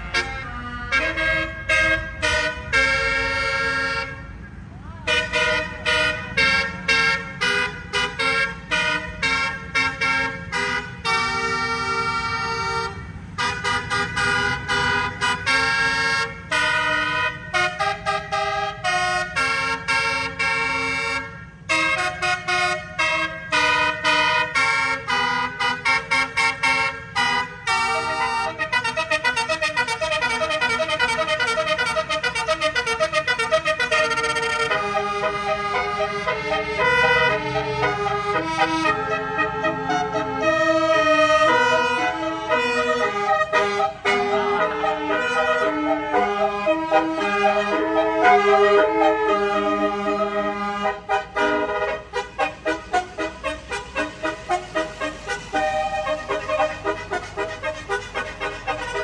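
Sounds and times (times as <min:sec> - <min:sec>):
musical air horn tune: 0:00.0 - 0:04.4, 0:05.1 - 0:59.0.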